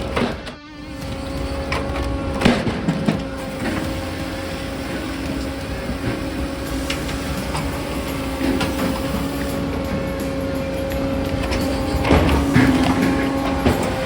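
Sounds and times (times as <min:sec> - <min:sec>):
diesel engine drone with whine: 0:00.0 - 0:14.0
machine knocking wood: 0:00.0 - 0:14.0.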